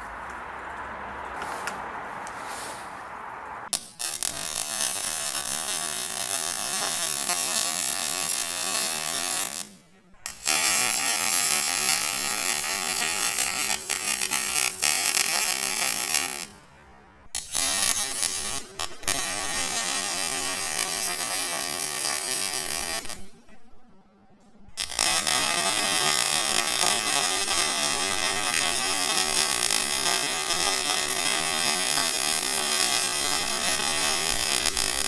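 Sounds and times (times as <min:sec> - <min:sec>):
welder arc crackling and buzzing: 0:00.0 - 0:23.6, 0:24.6 - 0:35.0.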